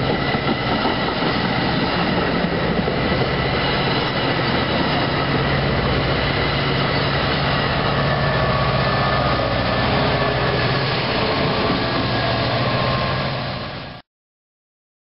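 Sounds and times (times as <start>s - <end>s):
diesel locomotive engine drone: 0.0s - 14.0s
train wheels rumbling on rails: 0.0s - 14.0s.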